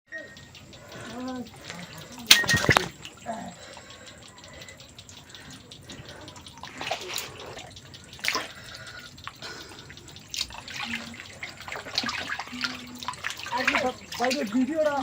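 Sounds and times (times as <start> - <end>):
water splashing and sloshing: 0.5 - 15.0.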